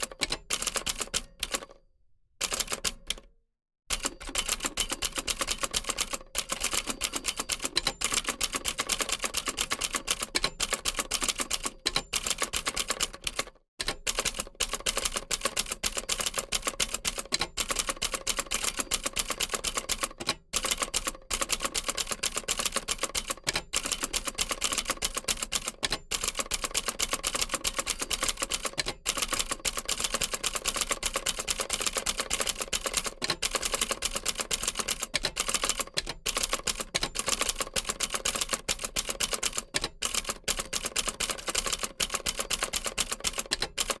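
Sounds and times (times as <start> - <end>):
typewriter keys clacking: 4.0 - 44.0.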